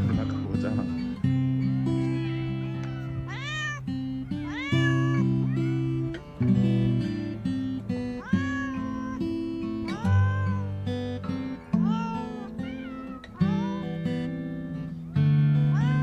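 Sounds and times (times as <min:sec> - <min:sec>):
guitar background music: 0:00.0 - 0:16.0
cat meowing: 0:01.5 - 0:07.0, 0:08.0 - 0:16.0.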